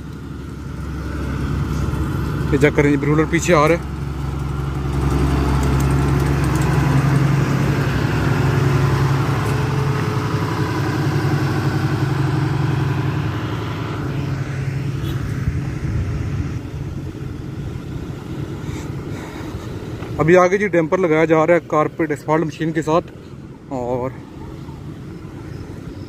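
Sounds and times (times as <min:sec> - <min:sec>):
road roller engine running: 0:00.0 - 0:26.0.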